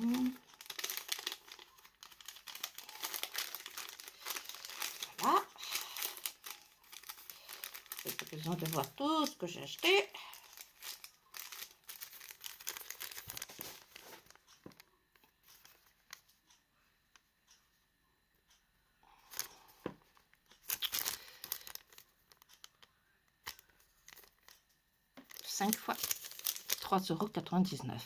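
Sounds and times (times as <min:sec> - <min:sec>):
paper receipt crinkling: 0:00.0 - 0:14.8, 0:19.3 - 0:19.6, 0:20.2 - 0:27.5.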